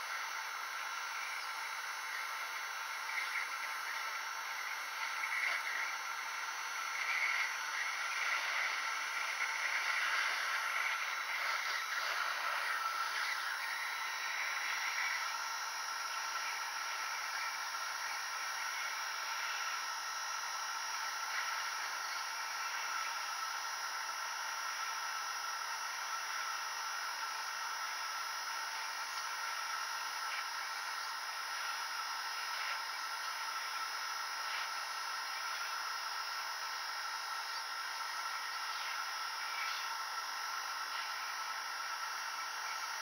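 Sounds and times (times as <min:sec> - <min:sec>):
hot air gun fan whirring: 0:00.0 - 0:43.0.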